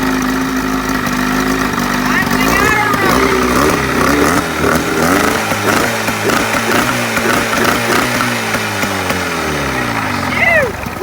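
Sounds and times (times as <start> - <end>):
outboard boat motor running: 0.0 - 11.0.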